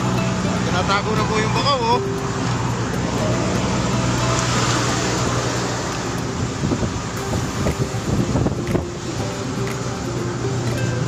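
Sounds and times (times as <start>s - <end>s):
boat engine humming: 0.0s - 11.0s
wind and water rushing: 0.0s - 11.0s.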